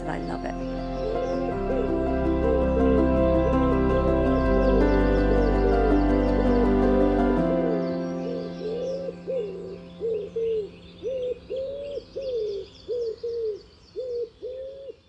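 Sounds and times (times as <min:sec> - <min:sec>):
small birds chirping: 0:00.0 - 0:15.0
pigeons cooing: 0:00.9 - 0:03.7, 0:04.4 - 0:15.0.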